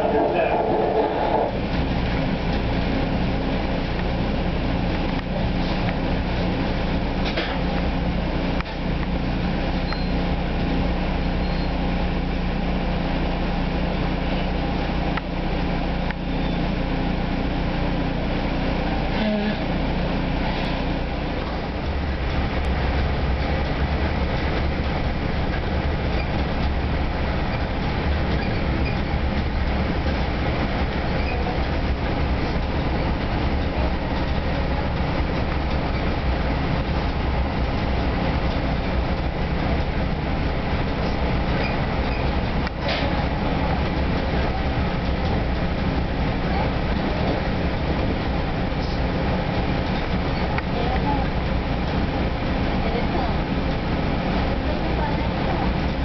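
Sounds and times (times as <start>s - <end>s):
train car hum: 0.0s - 56.0s
train wheels on rails: 0.0s - 56.0s.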